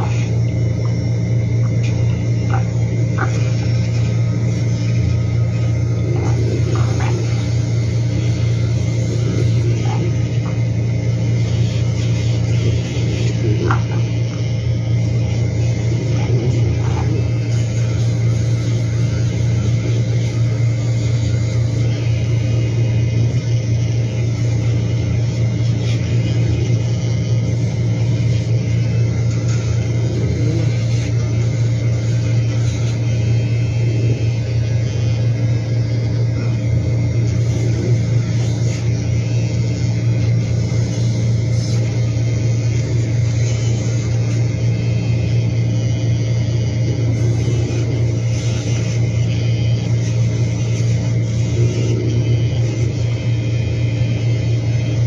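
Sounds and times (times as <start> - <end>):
electric nail grinder humming: 0.0 - 55.0.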